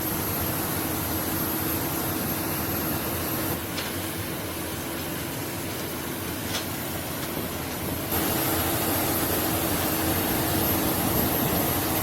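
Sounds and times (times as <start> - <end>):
machinery rush with hum and whine: 0.0 - 12.0.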